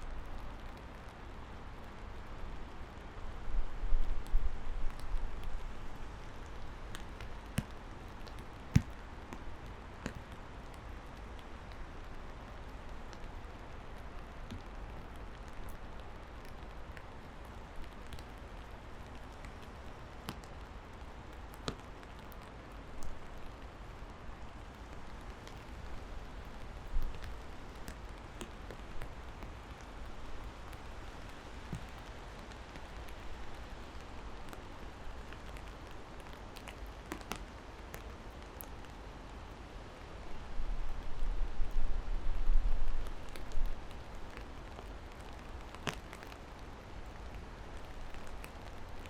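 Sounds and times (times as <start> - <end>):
raindrops ticking close by: 0.0 - 49.0
steady rain falling: 0.0 - 49.0.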